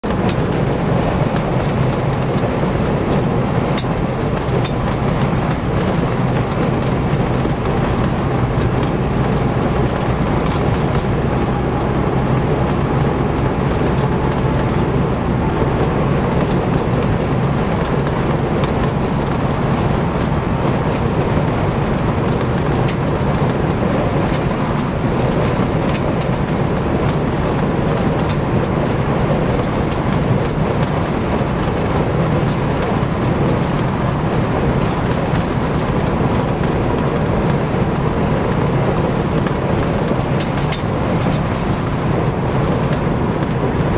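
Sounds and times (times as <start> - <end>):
low engine hum: 0.0 - 43.9
road and wind noise in car: 0.0 - 43.9.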